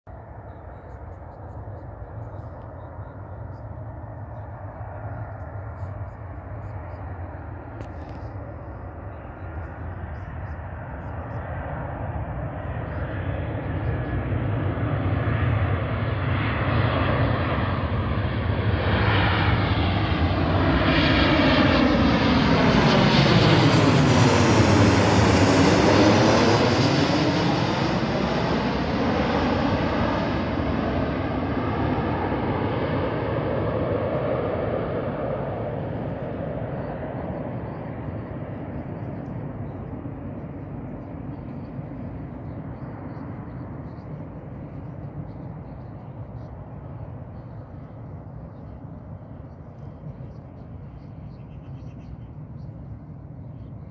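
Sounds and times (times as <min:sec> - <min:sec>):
jet airliner passing overhead: 0:00.1 - 0:53.9.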